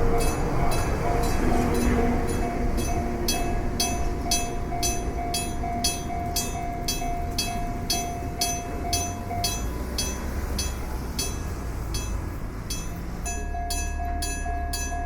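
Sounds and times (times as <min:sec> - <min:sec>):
level crossing bell ringing: 0:00.0 - 0:15.0.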